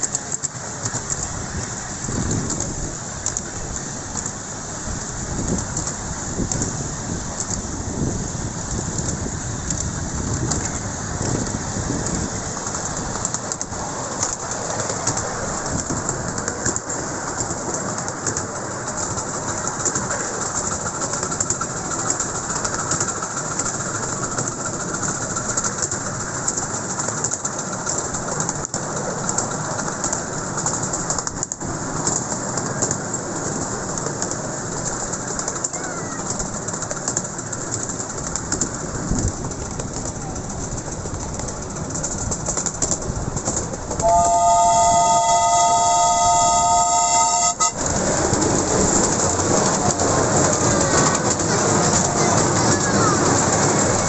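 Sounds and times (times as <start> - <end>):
clicks and ticks from rails: 0.0 - 4.6, 5.3 - 44.3, 47.4 - 54.0
miniature steam train rushing: 0.0 - 54.0.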